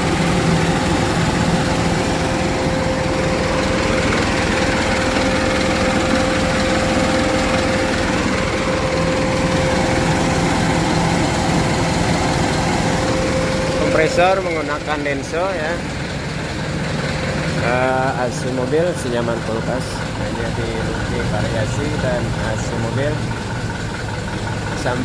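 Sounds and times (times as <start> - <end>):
electric fan hum: 0.0 - 21.1
truck engine idling: 0.0 - 25.0.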